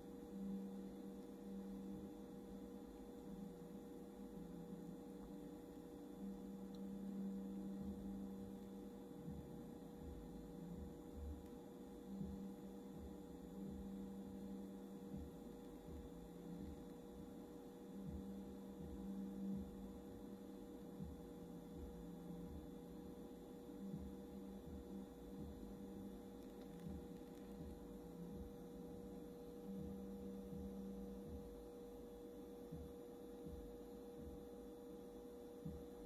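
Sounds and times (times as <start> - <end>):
inverter electrical hum: 0.0 - 36.0.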